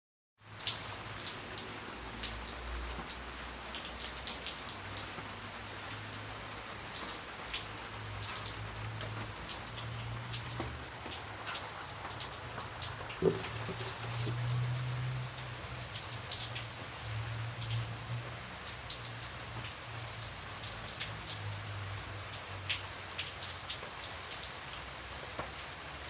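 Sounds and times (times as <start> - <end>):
light rain hiss: 0.4 - 26.0
raindrops ticking on a surface: 0.4 - 26.0.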